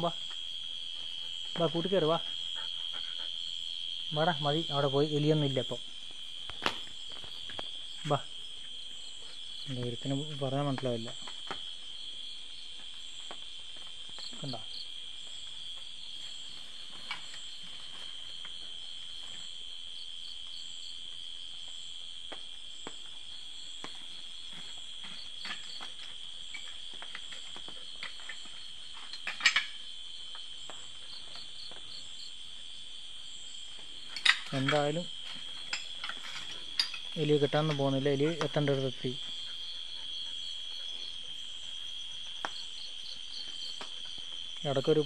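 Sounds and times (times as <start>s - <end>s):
night insects chirring: 0.0s - 45.0s.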